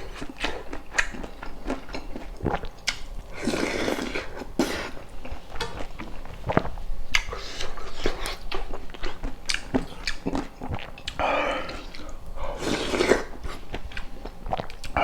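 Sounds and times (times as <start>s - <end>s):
chewing and biting: 0.0s - 15.0s.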